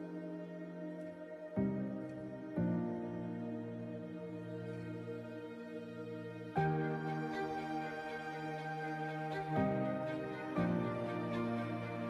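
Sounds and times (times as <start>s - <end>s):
soft slow instrumental music: 0.0s - 12.0s.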